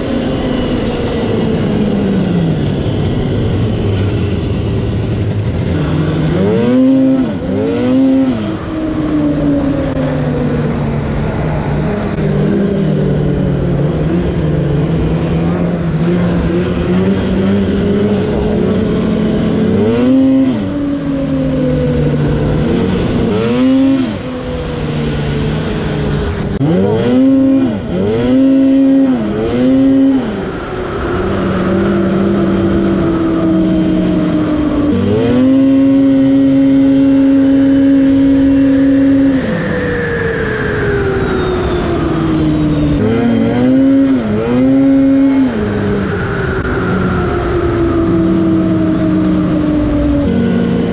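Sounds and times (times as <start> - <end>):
snowmobile engine running: 0.0 - 50.9.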